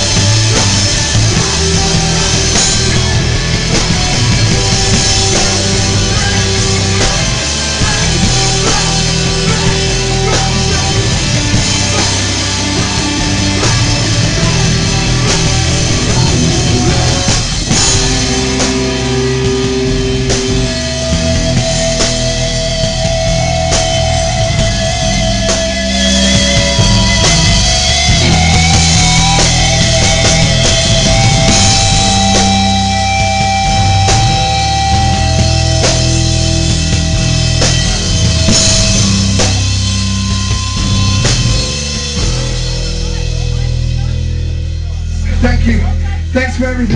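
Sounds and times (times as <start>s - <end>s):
hardcore band playing live: 0.0s - 46.9s.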